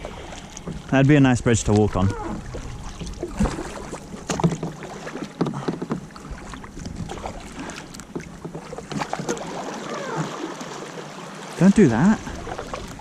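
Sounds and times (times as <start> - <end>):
kayak paddle splashing: 0.0 - 13.0
moving water: 0.0 - 13.0.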